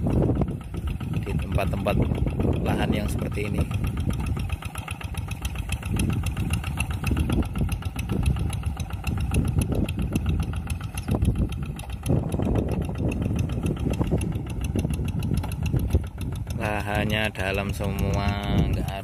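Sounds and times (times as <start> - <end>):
tractor engine running hard: 0.0 - 19.0.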